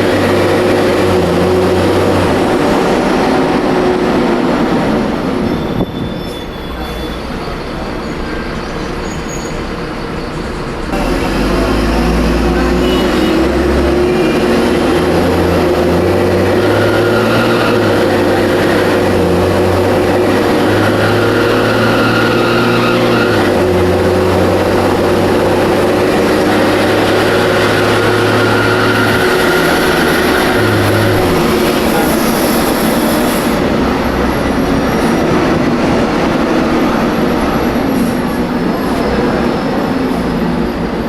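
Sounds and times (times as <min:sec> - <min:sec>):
bus engine running: 0:00.0 - 0:41.0.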